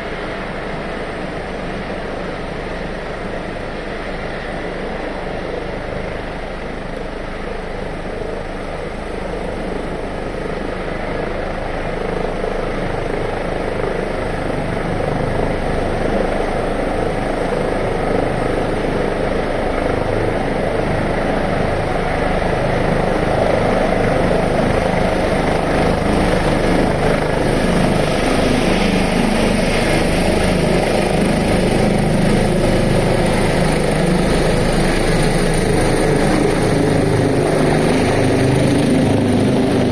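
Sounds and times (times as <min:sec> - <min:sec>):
helicopter engines and rotor: 0:00.0 - 0:39.9
high turbine whine: 0:00.0 - 0:39.9.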